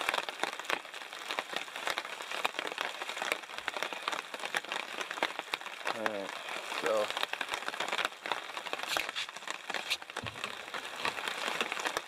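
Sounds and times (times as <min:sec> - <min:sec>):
rain drops pattering: 0:00.0 - 0:12.0
steady rain hiss: 0:00.0 - 0:12.0.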